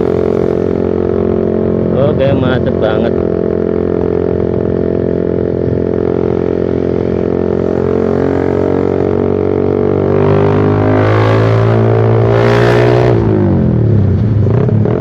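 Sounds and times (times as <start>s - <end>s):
motorcycle exhaust droning: 0.0s - 15.0s.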